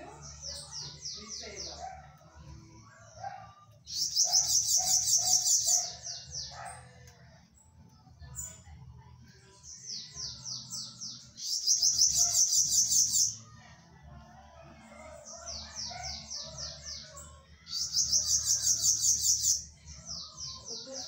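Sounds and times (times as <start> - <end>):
bird singing chirps and buzzy trill: 0.0 - 21.0.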